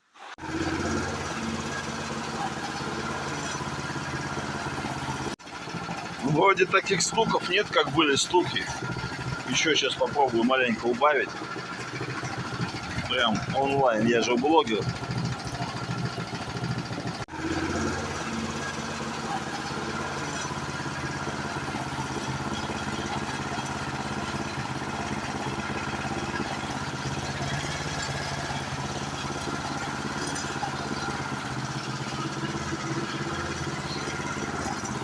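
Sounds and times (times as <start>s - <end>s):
small snowblower engine running: 0.0s - 35.0s.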